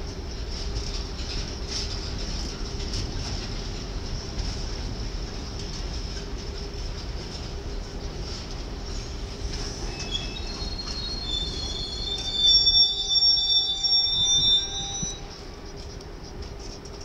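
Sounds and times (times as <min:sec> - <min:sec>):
low rumble of rolling wagons: 0:00.0 - 0:17.0
train wheels squealing on rails: 0:00.0 - 0:17.0.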